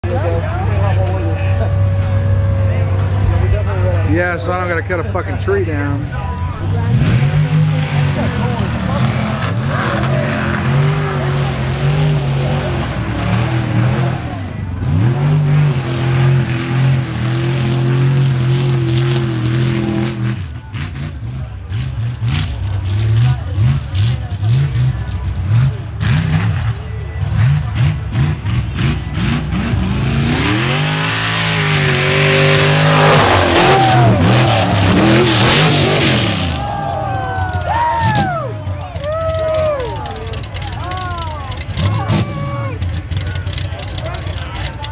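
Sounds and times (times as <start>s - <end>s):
truck engine revving: 0.0s - 44.9s.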